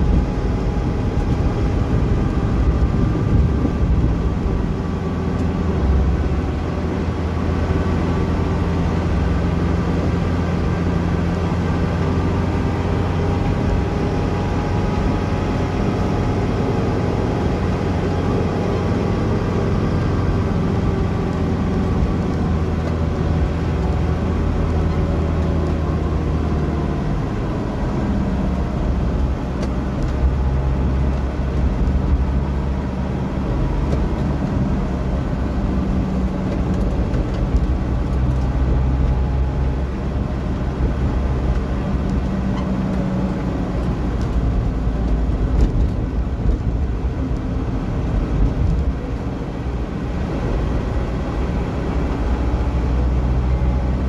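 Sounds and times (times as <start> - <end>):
vehicle engine drone in cabin: 0.0 - 54.0.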